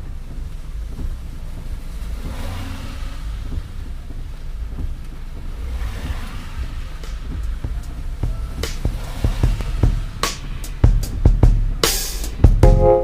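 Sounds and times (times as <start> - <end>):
vehicle road noise rumble: 0.0 - 13.0
hissing noise: 0.1 - 13.0.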